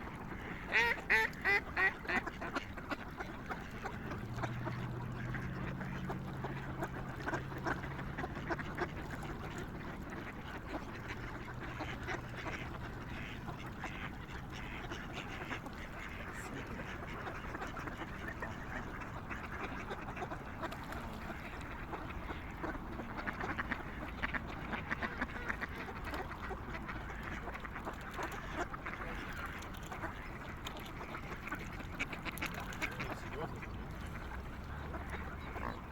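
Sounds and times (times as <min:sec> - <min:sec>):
ducks and swans calling: 0:00.0 - 0:35.9.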